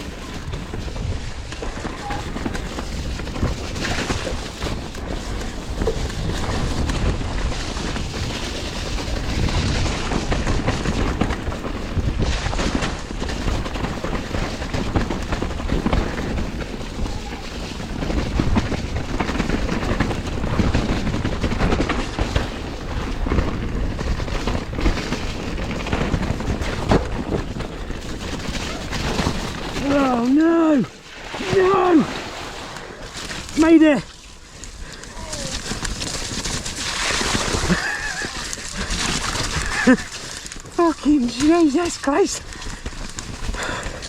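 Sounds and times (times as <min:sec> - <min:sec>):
bike rattling and knocking: 0:00.0 - 0:32.0, 0:32.6 - 0:44.0
tyres on mud and roots: 0:00.0 - 0:44.0.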